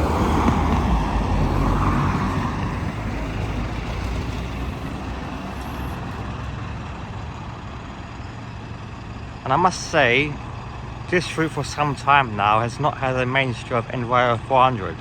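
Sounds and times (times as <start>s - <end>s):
bus engine pulling away: 0.0s - 15.0s.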